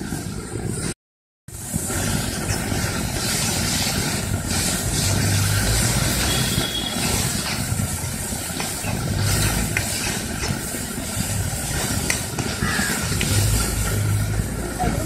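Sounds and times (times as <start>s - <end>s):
onions sizzling in hot oil: 1.5s - 15.0s
low uneven rumble: 1.6s - 15.0s.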